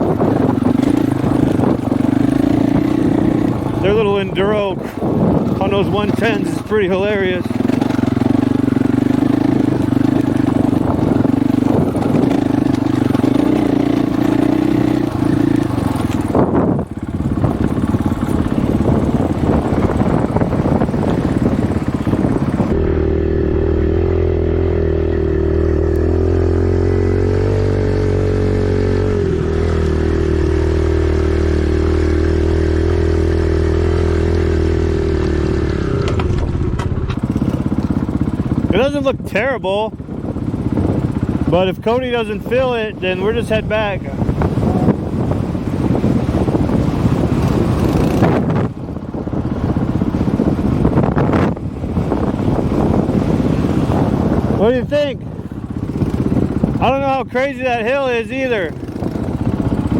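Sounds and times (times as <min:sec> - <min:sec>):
dirt bike engine running: 0:00.0 - 0:59.9
wind buffeting microphone: 0:00.0 - 0:59.9.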